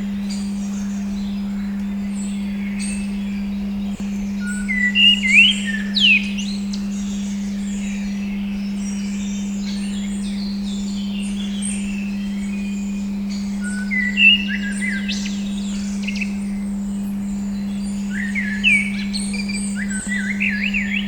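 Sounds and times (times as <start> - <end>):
birds chirping: 0.0 - 21.0
steady pure tone: 0.0 - 21.0
whistled bird calls: 0.0 - 21.0.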